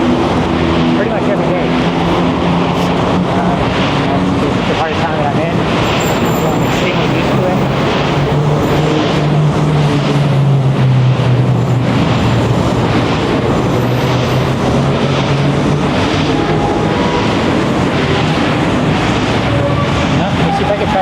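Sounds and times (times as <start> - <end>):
large engine humming: 0.0 - 21.0
passing vehicles: 0.0 - 21.0.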